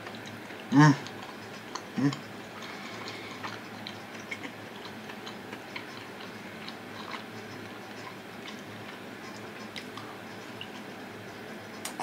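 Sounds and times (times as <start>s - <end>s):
steady low hum: 0.0s - 12.0s
wet chewing and mouth noises: 0.0s - 12.0s.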